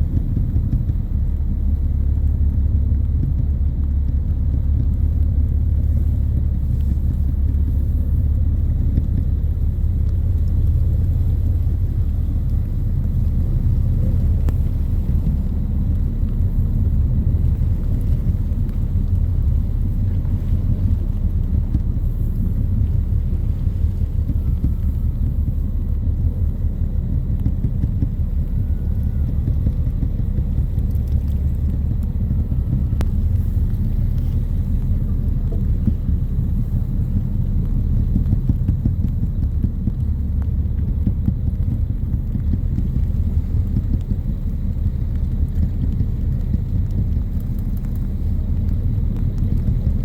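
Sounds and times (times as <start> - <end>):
boat engine drone: 0.0 - 50.0
wind buffeting microphone: 0.0 - 50.0.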